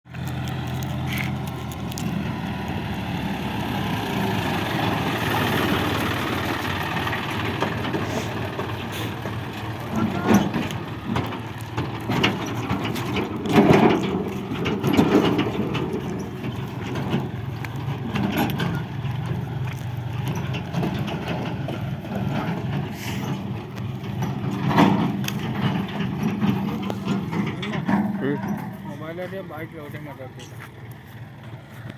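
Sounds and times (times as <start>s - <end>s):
diesel engine running under load: 0.1s - 31.9s.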